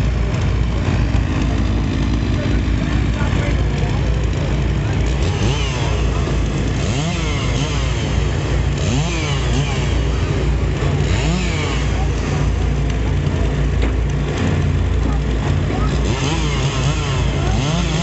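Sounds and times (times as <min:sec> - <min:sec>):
engine revving: 0:00.0 - 0:18.0
low engine drone: 0:00.0 - 0:18.0.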